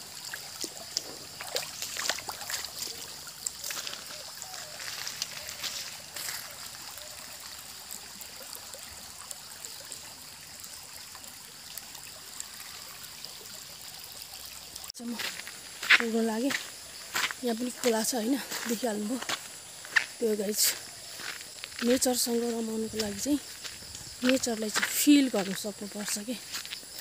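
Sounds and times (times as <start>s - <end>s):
stream babbling over stones: 0.0s - 27.0s
water plops and splashes: 0.0s - 27.0s.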